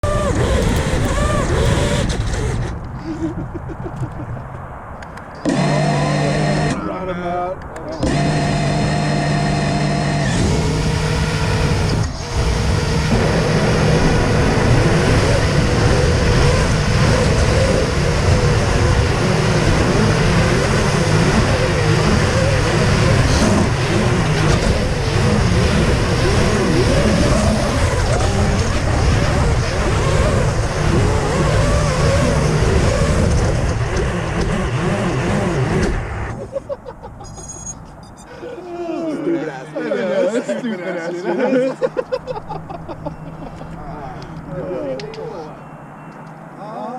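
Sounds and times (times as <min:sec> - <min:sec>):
drone motors whining: 0:00.0 - 0:03.5, 0:05.4 - 0:07.0, 0:07.8 - 0:39.2, 0:41.5 - 0:46.4.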